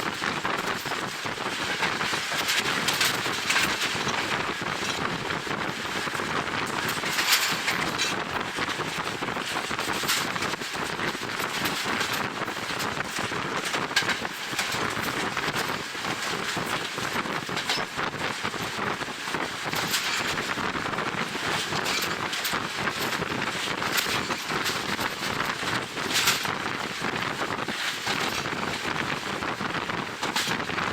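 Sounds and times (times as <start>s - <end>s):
train running noise: 0.0s - 30.9s
wind buffeting microphone: 0.0s - 30.9s.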